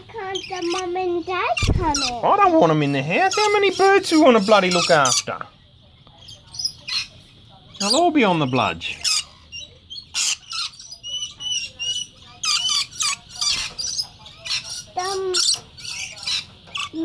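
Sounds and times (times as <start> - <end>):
parrots screeching and chattering: 0.0 - 5.5, 6.2 - 17.0.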